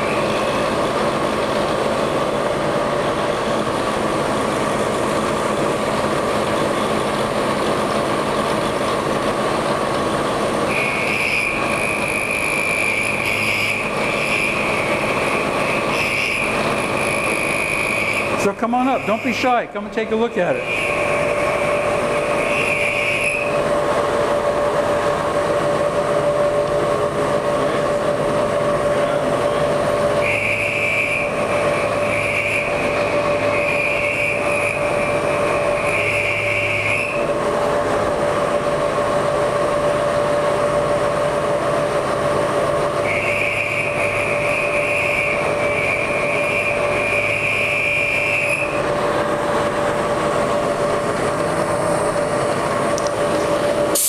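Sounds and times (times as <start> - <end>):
milling machine spindle whine: 0.0 - 54.0.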